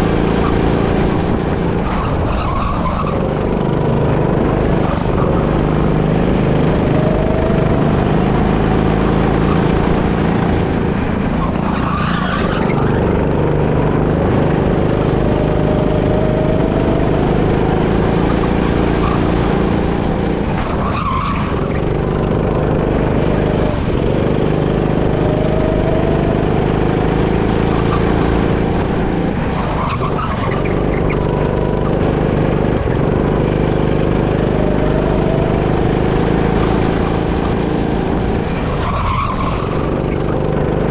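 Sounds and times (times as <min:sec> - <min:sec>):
go-kart engine running hard: 0:00.0 - 0:40.9.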